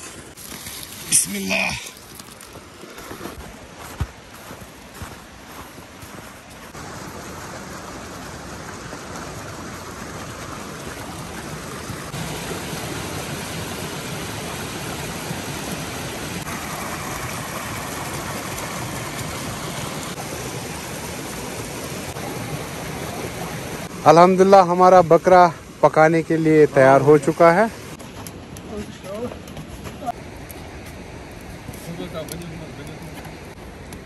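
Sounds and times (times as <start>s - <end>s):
stream rushing over stone: 0.0s - 34.0s.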